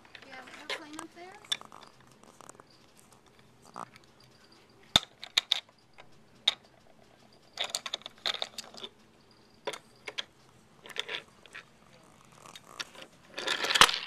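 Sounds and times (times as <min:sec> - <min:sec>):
toy train clacking on wooden track: 0:00.0 - 0:14.0.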